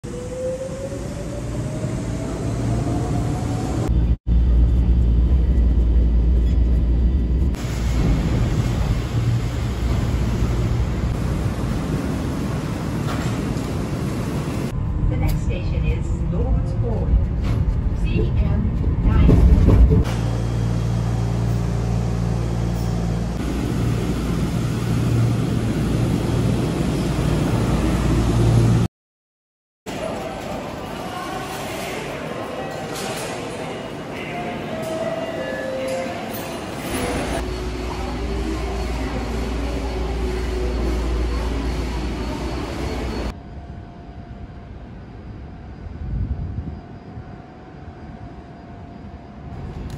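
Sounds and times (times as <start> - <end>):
monorail whine passing overhead: 0.0 - 18.0, 19.6 - 28.9, 29.9 - 49.9
deep train rumble: 0.0 - 28.9, 36.2 - 49.9.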